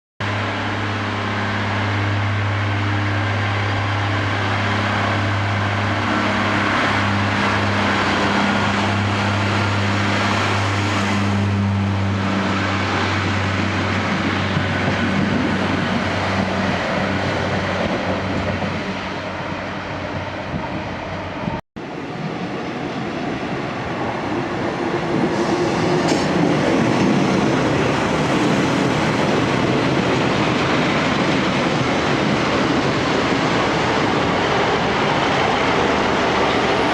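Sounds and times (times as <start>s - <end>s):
train engine hum: 0.2s - 36.9s
train running gear rumble: 0.2s - 36.9s.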